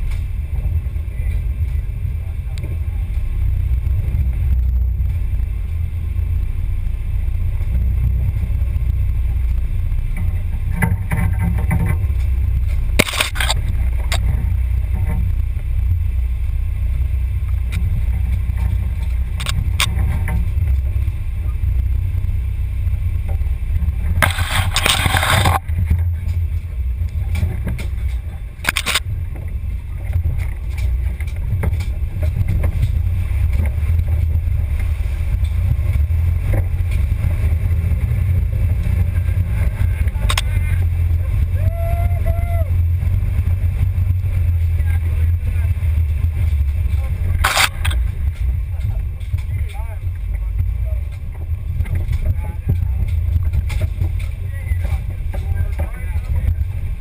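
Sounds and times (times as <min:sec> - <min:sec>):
low rumble of rc crawler: 0:00.0 - 0:57.0.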